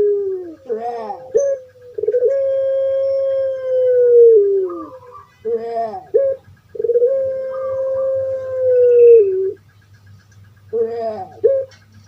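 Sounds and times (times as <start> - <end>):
dove crowing call: 0.0 - 12.0.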